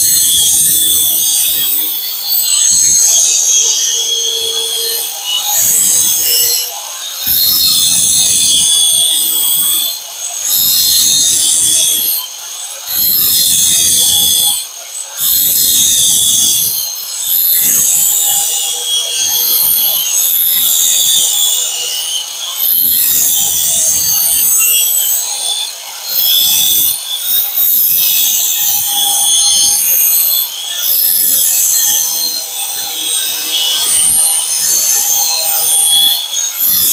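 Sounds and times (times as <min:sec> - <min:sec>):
power tool cutting steel: 0:00.0 - 0:36.9.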